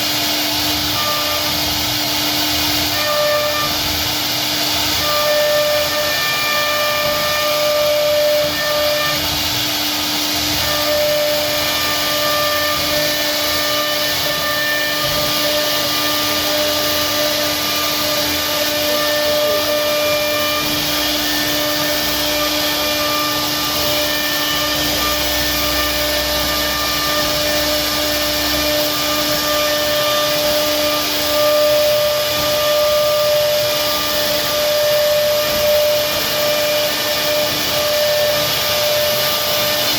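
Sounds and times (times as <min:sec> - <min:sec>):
hiss of carving wood: 0:00.0 - 0:39.9
router spindle whining: 0:00.0 - 0:39.9.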